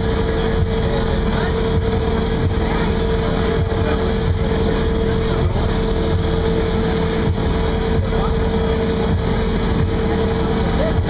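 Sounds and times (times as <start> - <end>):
boat engine droning: 0.0 - 11.0
engine whine: 0.0 - 11.0.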